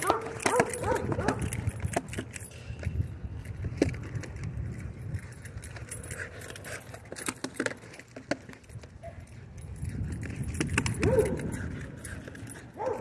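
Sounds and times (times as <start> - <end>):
dog collar metal jingling: 0.0 - 13.0.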